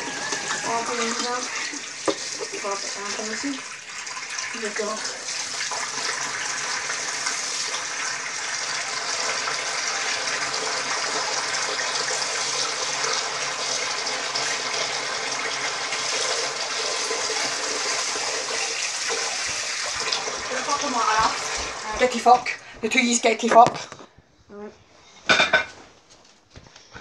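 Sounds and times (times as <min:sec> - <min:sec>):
water running: 0:00.0 - 0:23.6.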